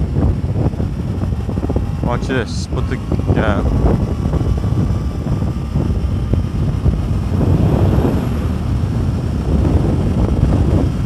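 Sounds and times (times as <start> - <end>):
motorcycle engine under throttle: 0.0 - 11.0
wind rushing over microphone: 0.0 - 11.0.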